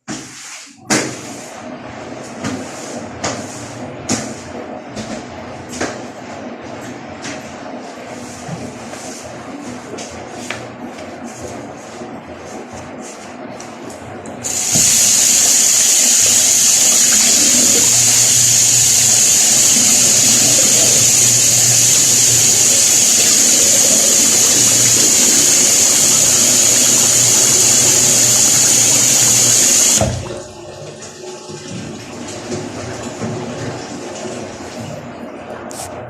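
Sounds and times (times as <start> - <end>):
washing machine water rushing: 0.2 - 36.0.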